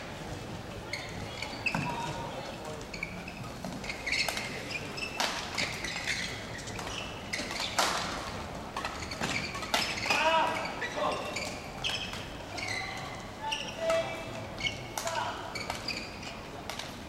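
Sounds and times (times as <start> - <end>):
shoes squeaking on court: 0.8 - 17.0.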